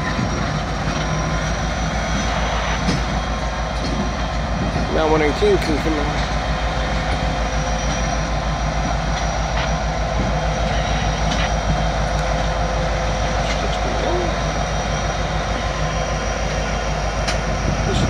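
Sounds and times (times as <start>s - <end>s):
diesel locomotive rolling past: 0.0s - 18.0s.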